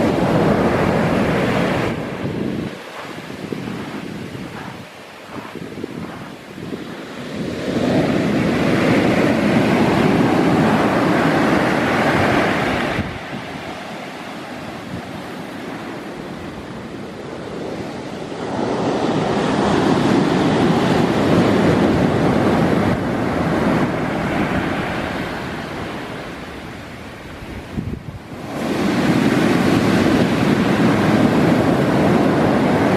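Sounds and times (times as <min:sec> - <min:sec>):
ocean waves breaking: 0:00.0 - 0:32.9.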